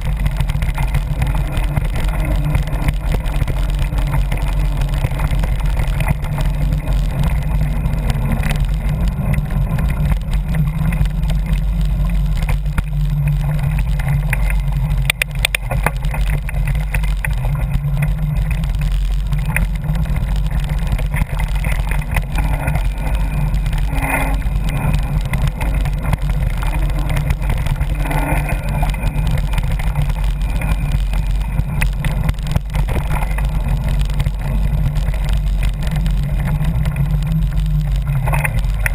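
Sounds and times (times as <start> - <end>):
rattles and knocks over rough ground: 0.0 - 38.9
wind rumble on microphone: 0.0 - 38.9.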